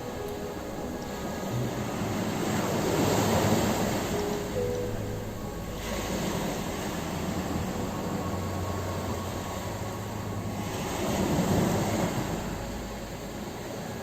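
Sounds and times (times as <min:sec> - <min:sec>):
ocean waves washing ashore: 0:00.0 - 0:14.0.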